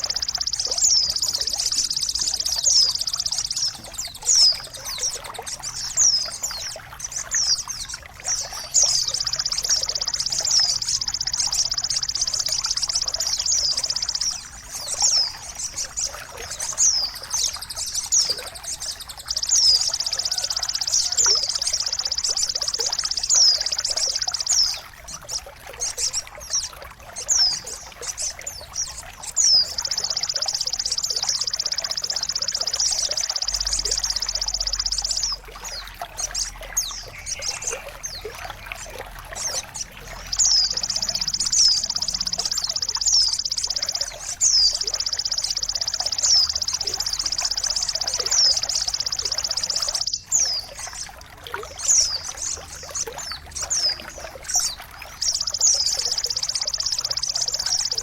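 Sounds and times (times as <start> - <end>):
fast bird trill: 0.0 - 58.0.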